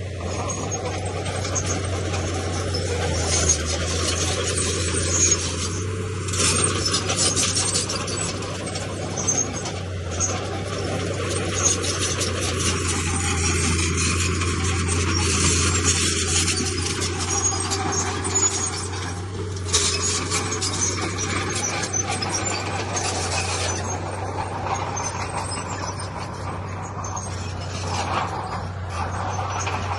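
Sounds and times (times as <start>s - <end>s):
heavy diesel machinery running: 0.0s - 29.9s
stone and rubble scraping: 0.0s - 29.9s.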